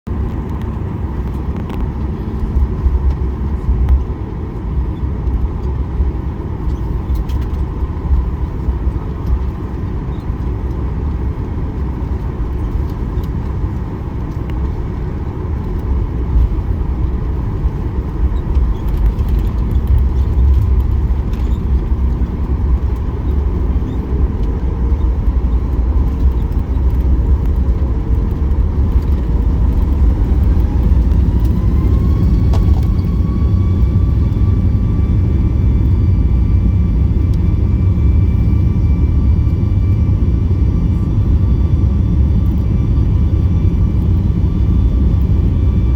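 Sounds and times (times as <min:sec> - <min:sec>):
airliner engine rumble: 0:00.0 - 0:45.9.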